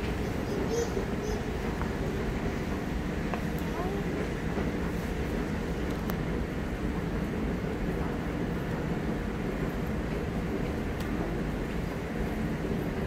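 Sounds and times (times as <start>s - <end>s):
station platform rumble and hum: 0.0s - 13.0s.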